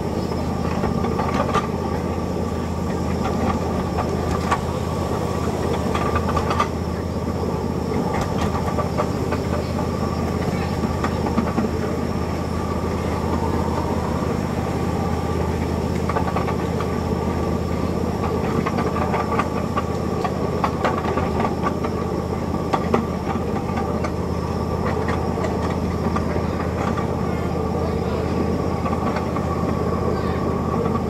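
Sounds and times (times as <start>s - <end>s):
miniature train droning: 0.0s - 31.0s
wheels clicking on track: 0.0s - 31.0s.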